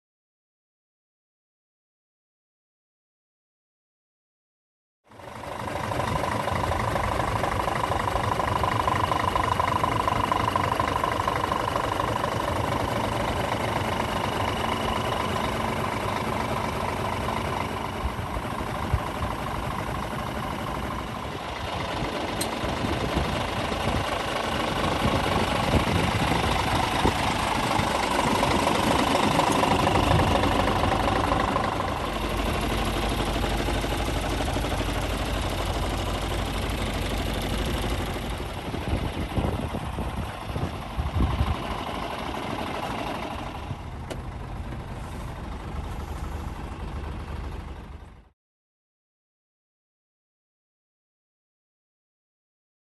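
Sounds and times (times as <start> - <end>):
diesel truck engine idling: 5.1 - 48.3.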